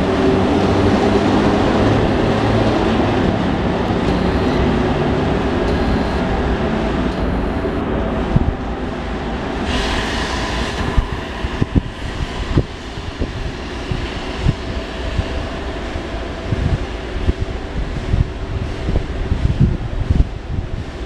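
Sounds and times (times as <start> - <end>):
electric locomotive running hum: 0.0 - 21.0.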